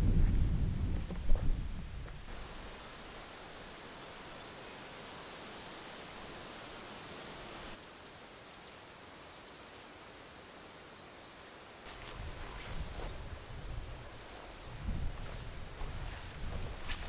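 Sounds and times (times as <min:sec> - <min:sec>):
faint rustling hiss: 0:00.8 - 0:17.0
insects buzzing: 0:02.3 - 0:17.0.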